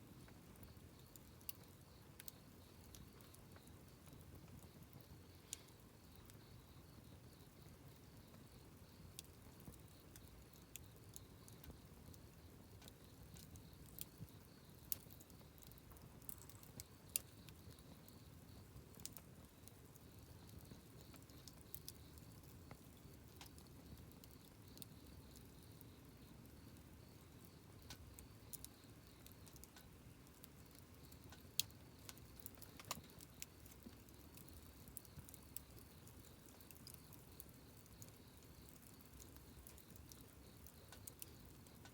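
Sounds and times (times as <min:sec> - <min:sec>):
campfire crackling and popping: 0:00.1 - 0:41.9.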